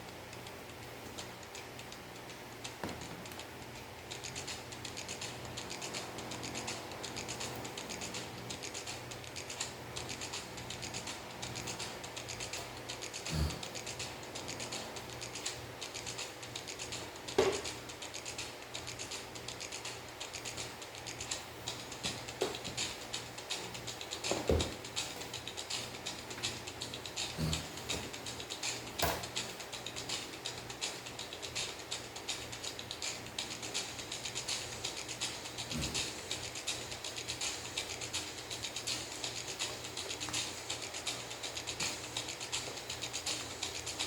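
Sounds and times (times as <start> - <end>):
small rapid clicks and ticks: 0.0 - 44.0.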